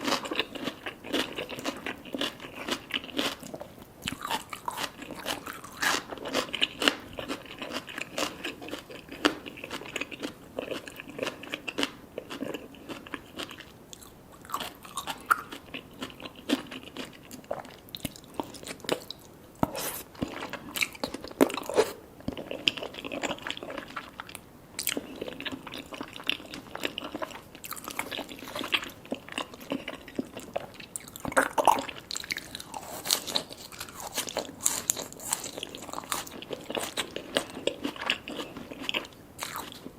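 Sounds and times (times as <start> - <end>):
chewing with crunches: 0.0 - 39.9.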